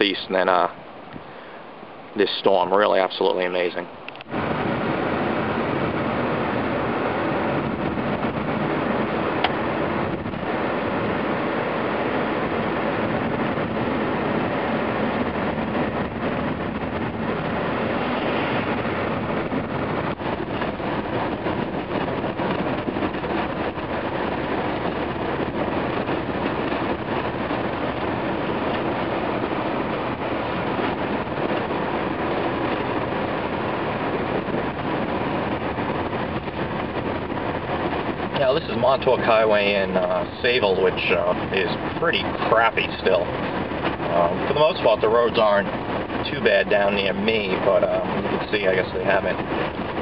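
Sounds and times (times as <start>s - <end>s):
car engine and tyre noise: 0.0s - 50.0s.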